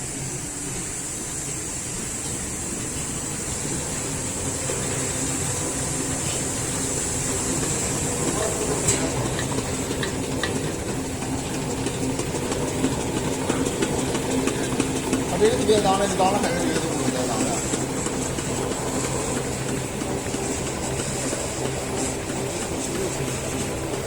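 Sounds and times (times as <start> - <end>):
machine humming and hissing: 0.0 - 24.0.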